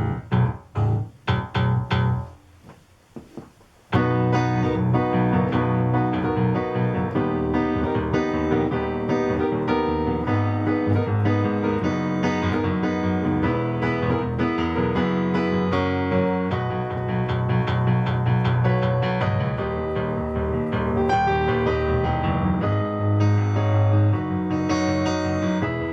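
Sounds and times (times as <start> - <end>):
electric piano chords and bass: 0.0 - 2.7, 3.3 - 25.9.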